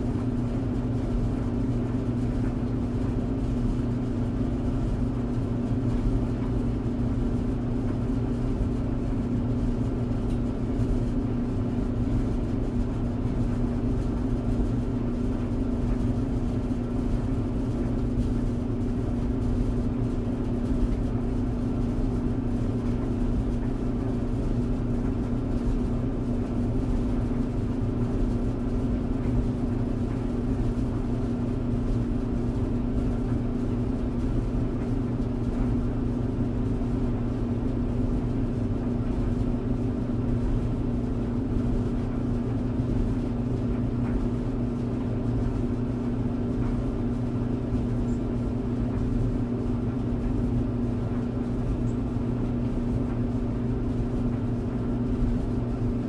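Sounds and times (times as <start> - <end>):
clothes dryer running: 0.0 - 56.0.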